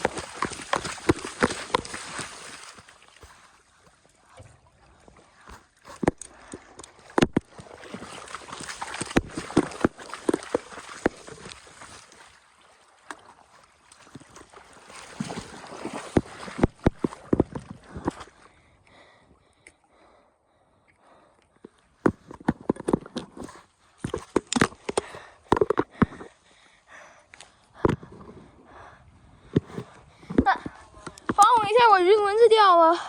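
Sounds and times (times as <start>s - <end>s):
water splashing: 0.0s - 19.1s, 21.6s - 33.0s.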